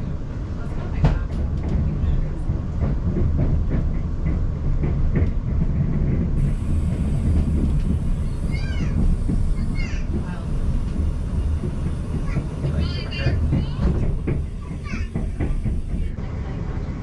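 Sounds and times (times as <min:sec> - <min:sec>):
train running rumble: 0:00.0 - 0:17.0
wheels clicking over rails: 0:00.2 - 0:17.0.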